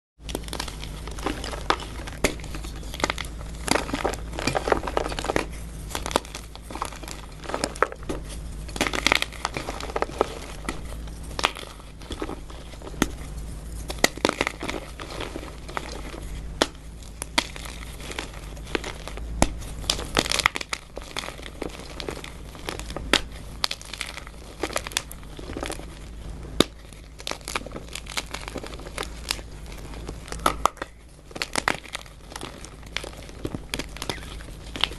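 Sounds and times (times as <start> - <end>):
chalk blocks being crushed: 0.2 - 34.9.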